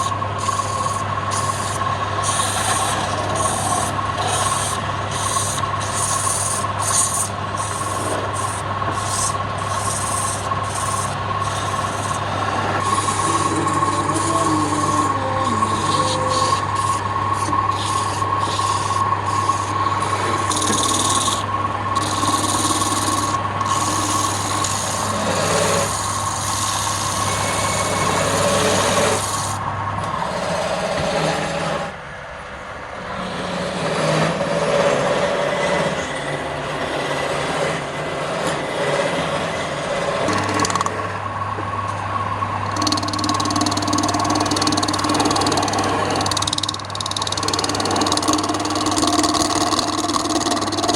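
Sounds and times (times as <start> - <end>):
tool scraping spinning wood: 0.0 - 32.0, 33.0 - 41.2, 42.6 - 50.9
wood lathe motor hum: 0.0 - 32.0, 33.0 - 50.9.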